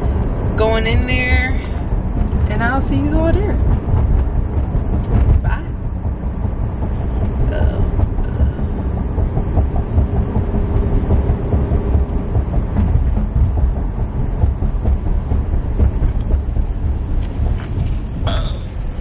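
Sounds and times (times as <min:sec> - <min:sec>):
car cabin road rumble: 0:00.0 - 0:19.0.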